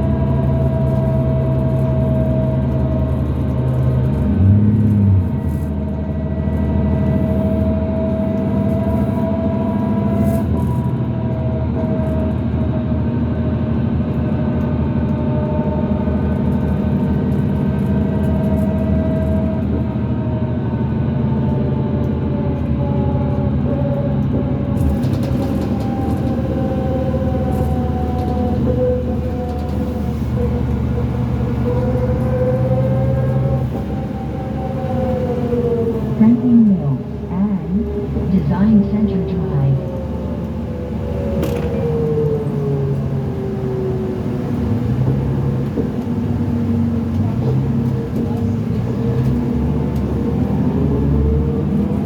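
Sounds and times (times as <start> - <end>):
bus diesel engine drone: 0.0 - 52.0.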